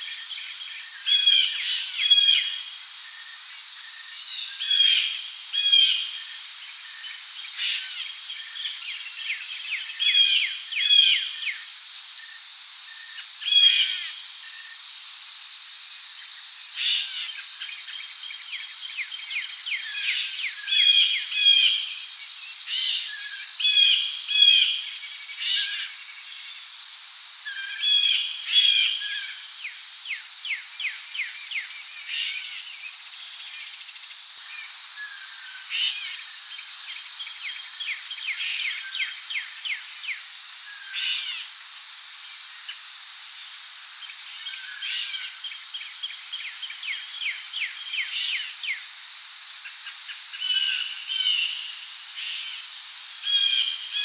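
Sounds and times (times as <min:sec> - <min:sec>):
crickets droning: 0:00.0 - 0:54.0.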